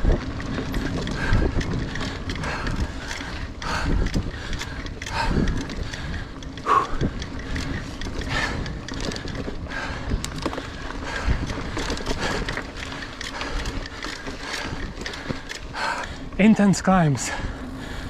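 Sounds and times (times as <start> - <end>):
bike knocks and rattles: 0.0 - 16.5
tyres on dirt and rocks: 0.0 - 18.0.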